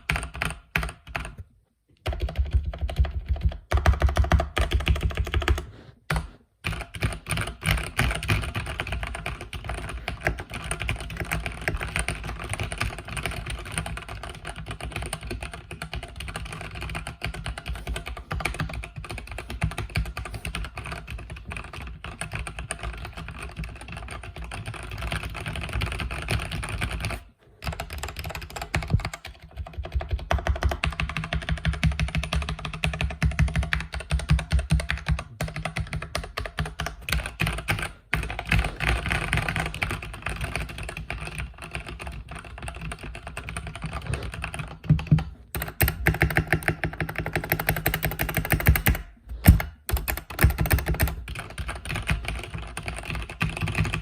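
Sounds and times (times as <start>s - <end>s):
mechanical keyboard typing: 0.0s - 1.4s, 2.0s - 54.0s.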